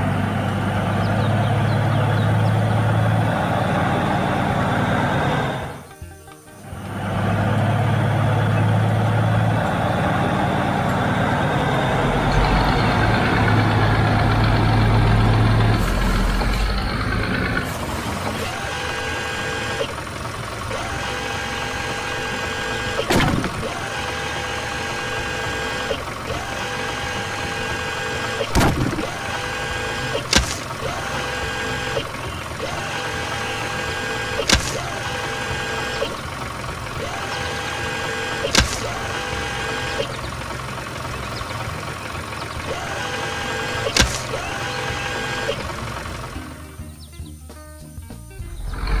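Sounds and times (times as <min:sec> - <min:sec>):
cartoon vehicle engine sound: 0:00.0 - 0:49.0.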